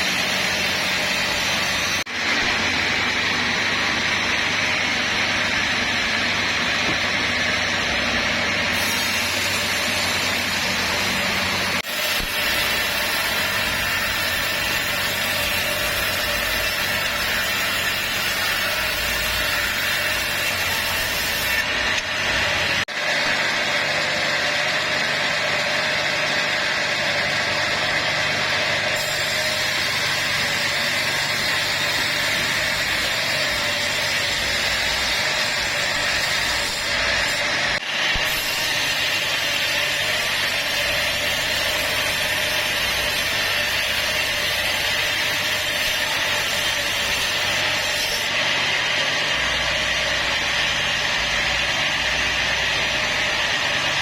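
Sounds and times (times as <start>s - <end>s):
saw grinding through timber: 0.0s - 54.0s.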